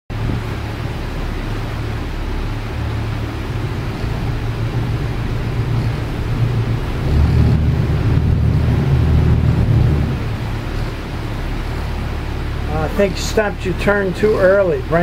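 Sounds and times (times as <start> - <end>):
boat diesel engines humming: 0.1 - 15.0.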